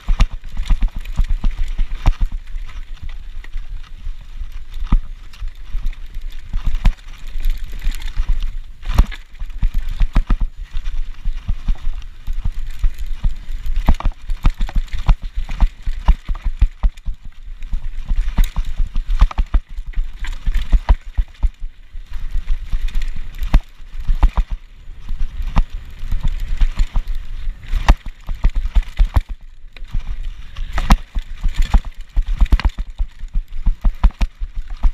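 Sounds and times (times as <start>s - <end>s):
bike clattering over bumps: 0.0s - 34.9s
wind rumbling on microphone: 0.0s - 34.9s.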